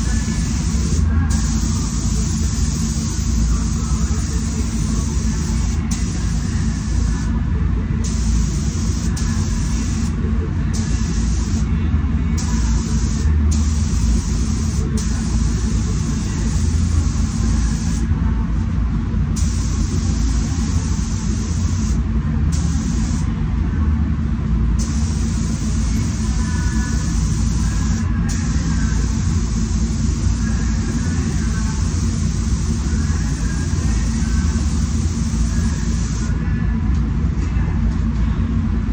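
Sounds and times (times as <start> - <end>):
spray gun hissing: 0.0 - 7.3, 8.0 - 10.1, 10.8 - 11.6, 12.4 - 18.0, 19.4 - 23.3, 24.8 - 36.3
air system rumble: 0.0 - 38.9.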